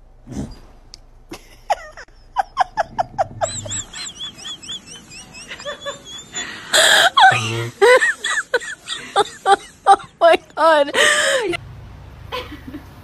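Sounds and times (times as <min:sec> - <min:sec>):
person laughing: 0:01.3 - 0:11.6, 0:12.3 - 0:12.9.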